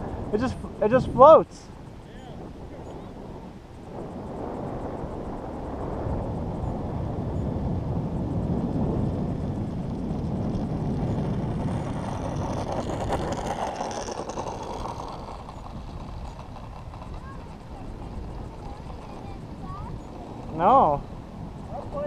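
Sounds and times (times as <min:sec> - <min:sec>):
model jet motor passing: 0:00.0 - 0:22.0
wind rumble on microphone: 0:00.0 - 0:22.0.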